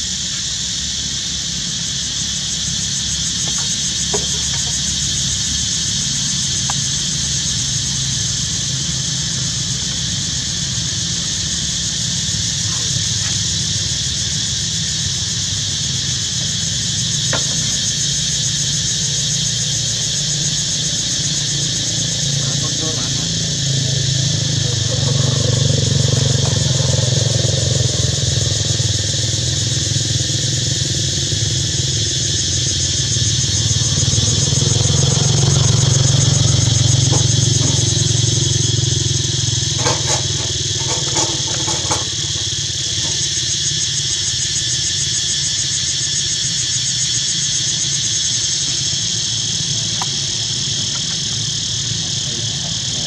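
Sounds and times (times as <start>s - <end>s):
high-pitched insect drone: 0.0s - 53.0s.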